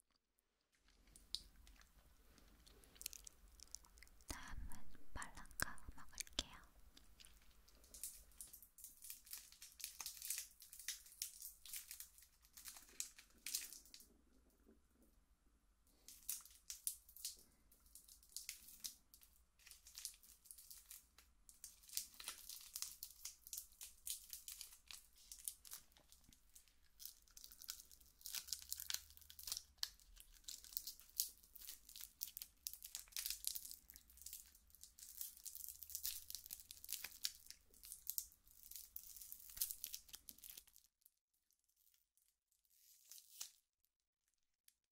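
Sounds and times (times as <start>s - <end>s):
plastic wrapper crinkling: 0.7s - 14.1s, 16.0s - 43.7s.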